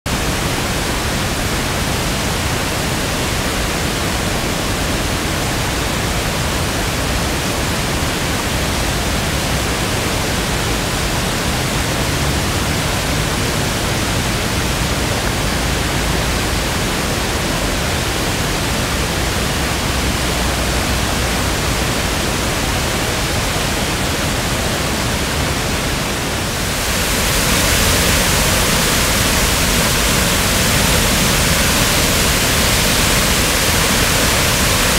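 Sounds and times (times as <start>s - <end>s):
river rushing over rapids: 0.1s - 34.9s.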